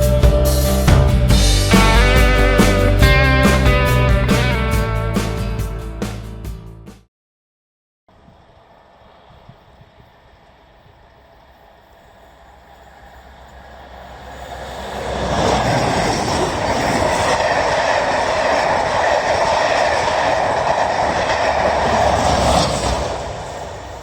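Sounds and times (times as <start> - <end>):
train passing at speed: 0.0 - 6.3, 8.1 - 24.0.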